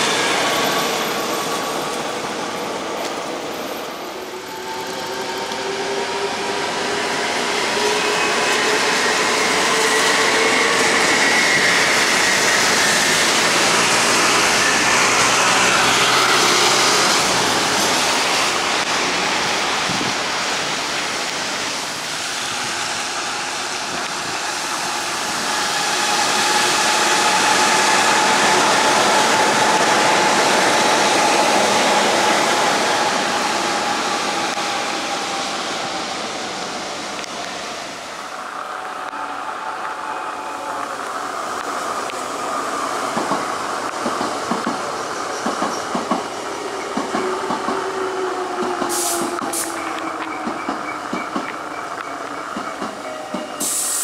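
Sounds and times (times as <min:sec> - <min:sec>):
train running past on rails: 0:00.0 - 0:54.0.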